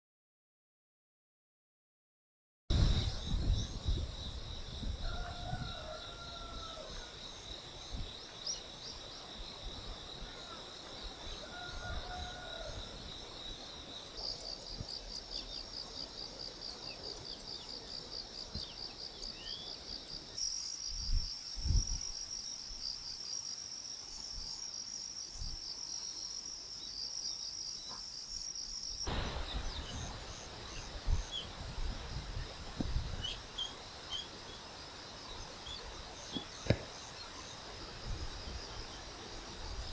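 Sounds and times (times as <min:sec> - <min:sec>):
insects trilling: 0:02.7 - 0:39.9.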